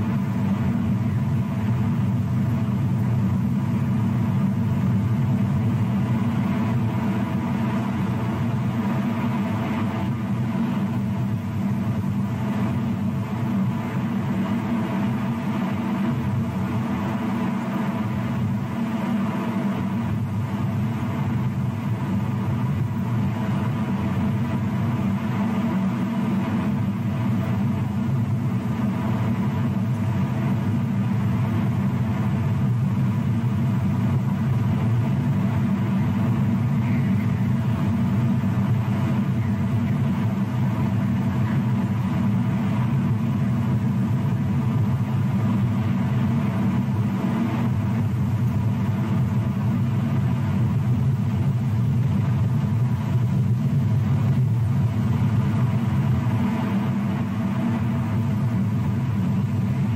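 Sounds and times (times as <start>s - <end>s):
low hum and rumble: 0.0s - 59.9s.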